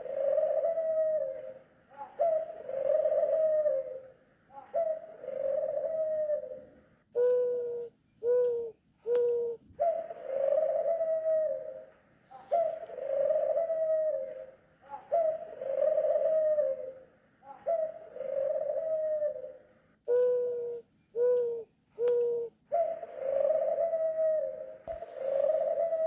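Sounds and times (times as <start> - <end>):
doves calling: 0.0 - 26.0.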